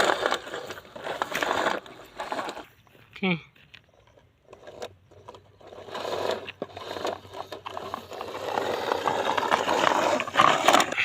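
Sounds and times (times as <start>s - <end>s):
toy truck whirring and scraping: 0.0s - 3.1s, 3.7s - 11.0s.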